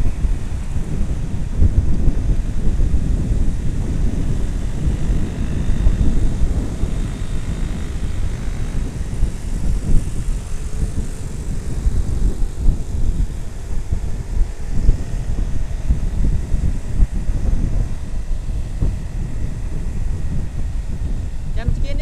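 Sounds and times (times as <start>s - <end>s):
motorcycle engine drone: 0.0s - 22.0s
wind buffeting the microphone: 0.0s - 22.0s.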